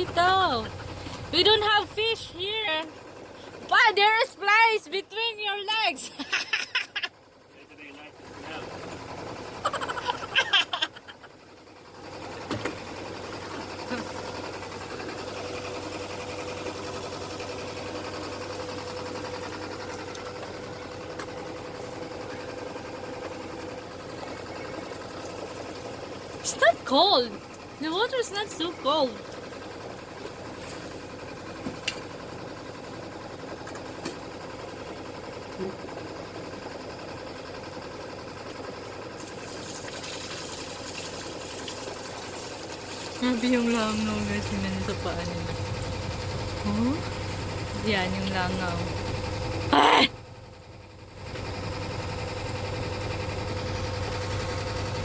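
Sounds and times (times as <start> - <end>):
small motor running: 0.0 - 55.0.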